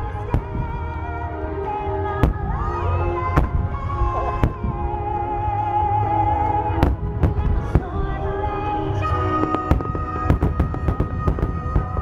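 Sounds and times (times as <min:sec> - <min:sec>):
continuous low rumble: 0:00.0 - 0:12.0
music over loudspeakers: 0:00.0 - 0:12.0.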